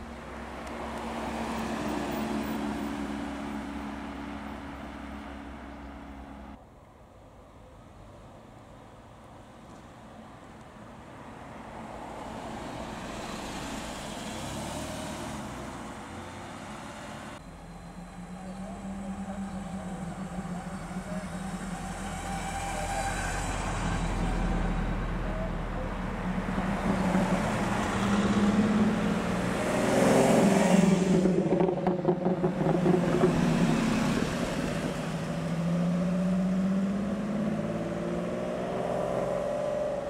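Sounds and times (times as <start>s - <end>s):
sports cars driving past: 0.0s - 6.6s, 11.1s - 40.0s.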